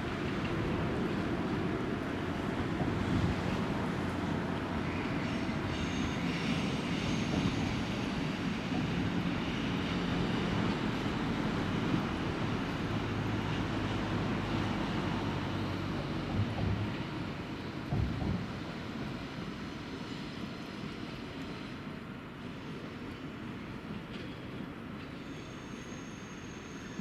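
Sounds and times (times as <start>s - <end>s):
train rumbling hum: 0.0s - 27.0s.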